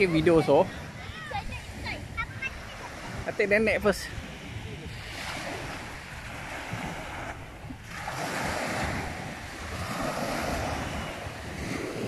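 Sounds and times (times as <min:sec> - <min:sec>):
small waves breaking on shore: 0:00.0 - 0:12.0
wind buffeting microphone: 0:00.0 - 0:12.0.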